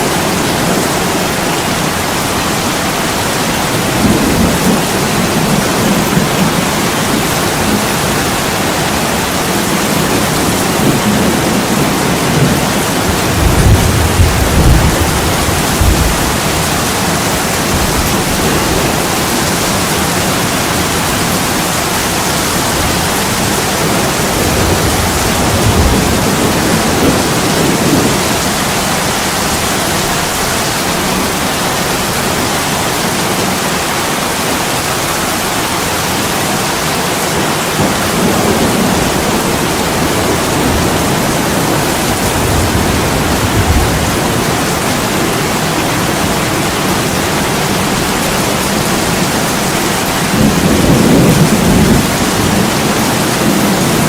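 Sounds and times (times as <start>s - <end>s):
heavy rain on a window: 0.0s - 54.0s
low thunder rumbles: 3.7s - 31.4s, 37.8s - 54.0s.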